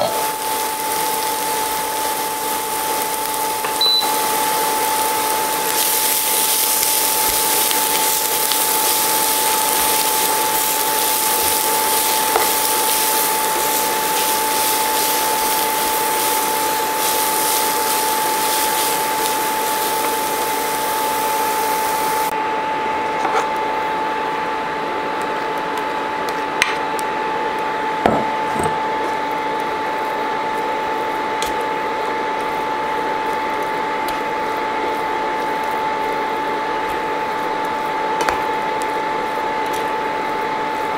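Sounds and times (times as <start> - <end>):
cooktop fan noise: 0.0 - 40.9
induction cooktop whine: 0.0 - 40.9.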